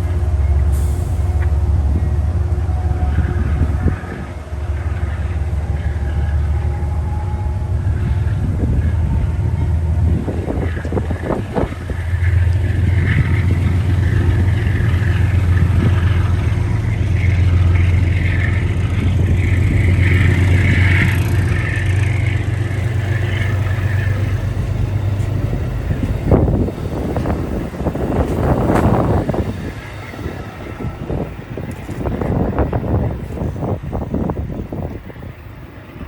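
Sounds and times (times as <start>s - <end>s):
diesel train engine rumble: 0.0s - 36.0s
wheels rushing on rail: 0.0s - 36.0s.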